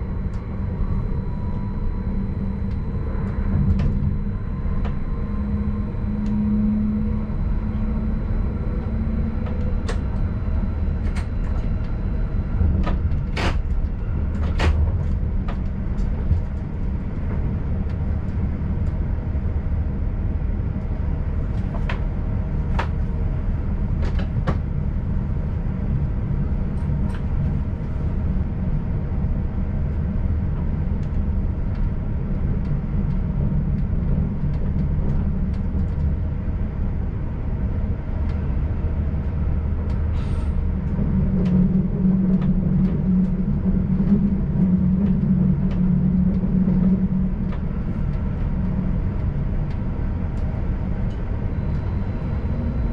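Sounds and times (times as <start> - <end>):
hum: 0.0 - 52.9
train wheels rumbling on track: 3.2 - 52.9.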